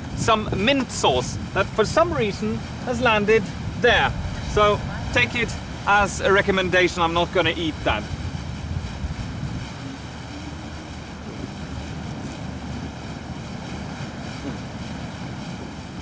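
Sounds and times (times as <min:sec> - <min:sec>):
sea wash: 0:00.0 - 0:16.0
wind rumble on microphone: 0:00.0 - 0:16.0.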